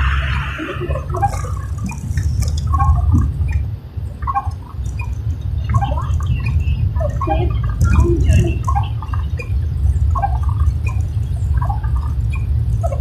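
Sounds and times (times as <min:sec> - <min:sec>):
rain dripping and splashing: 0:00.0 - 0:13.0
steady low rumble: 0:00.0 - 0:13.0.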